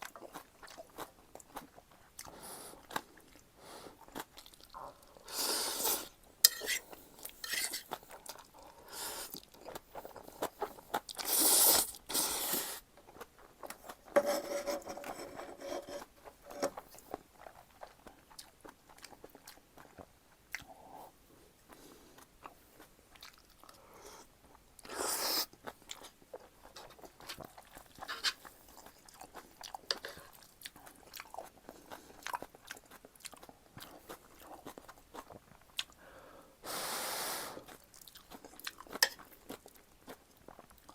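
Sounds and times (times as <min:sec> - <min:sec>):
chewing and crunching food: 0:00.0 - 0:14.2, 0:14.9 - 0:36.2, 0:37.5 - 0:40.9.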